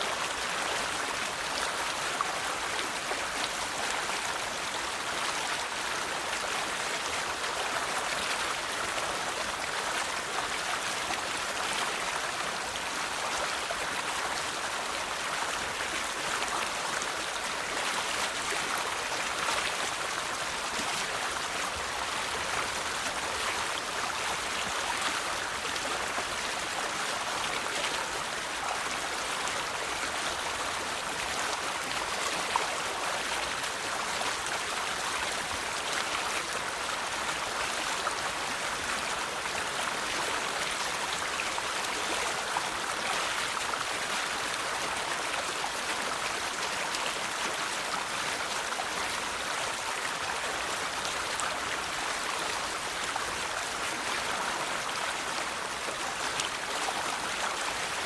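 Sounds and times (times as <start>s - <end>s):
river water babbling over stones: 0.0s - 58.0s.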